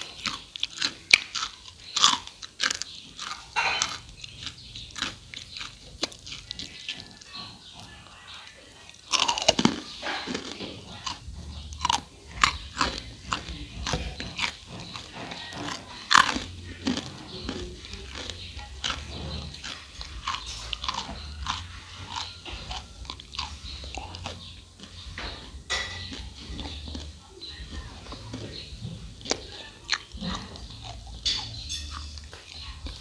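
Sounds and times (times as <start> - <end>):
crunching crispy rice cakes: 0.0 - 33.0.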